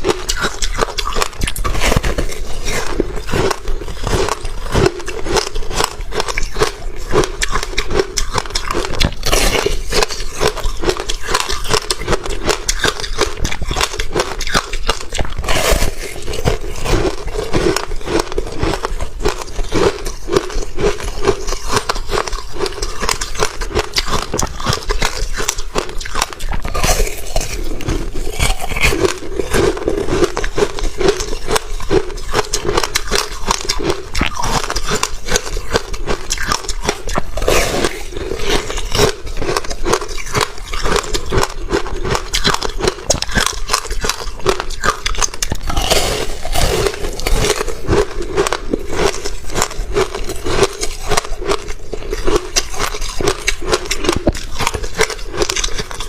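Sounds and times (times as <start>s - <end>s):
chewing ice crunching: 0.0s - 56.0s.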